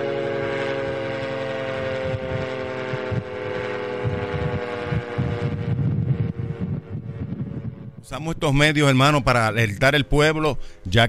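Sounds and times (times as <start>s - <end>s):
warning siren falling tone: 0.0s - 10.6s
wind rumbling on microphone: 0.0s - 10.6s.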